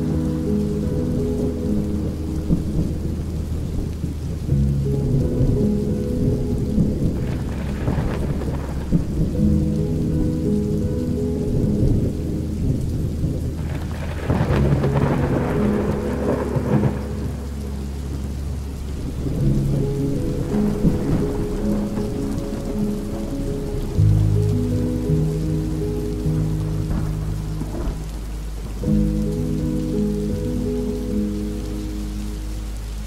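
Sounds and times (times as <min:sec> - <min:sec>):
deep thunder rumble: 0:00.0 - 0:33.0
held low musical notes: 0:00.0 - 0:33.0
steady rain: 0:00.0 - 0:33.0.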